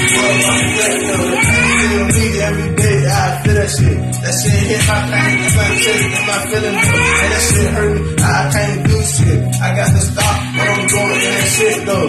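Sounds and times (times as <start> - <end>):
heavy bass line: 0.0 - 12.0
hip hop beat: 0.0 - 12.0.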